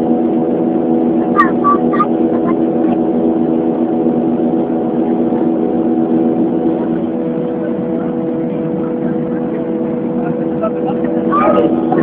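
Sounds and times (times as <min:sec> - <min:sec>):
jet engines droning in cabin: 0:00.0 - 0:12.0
steady humming tones: 0:00.0 - 0:12.0.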